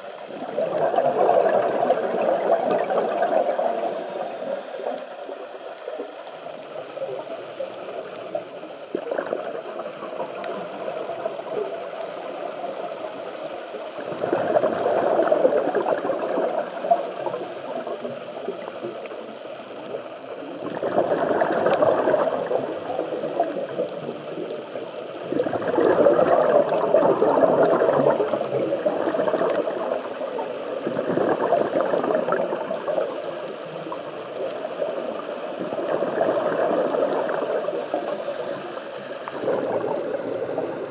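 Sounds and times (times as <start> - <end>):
underwater bubbles gurgling: 0.0 - 40.9
underwater hiss: 0.0 - 40.9.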